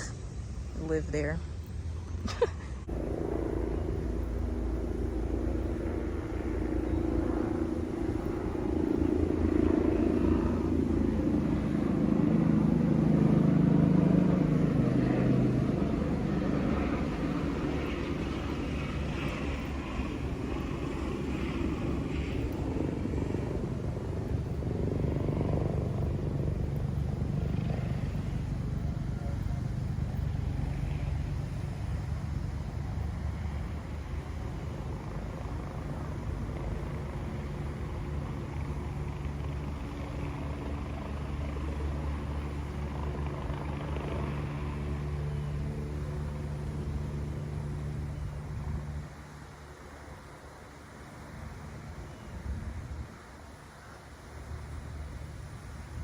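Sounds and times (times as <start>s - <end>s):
steady low rumble: 0.0s - 53.2s
engine droning past: 0.0s - 56.0s.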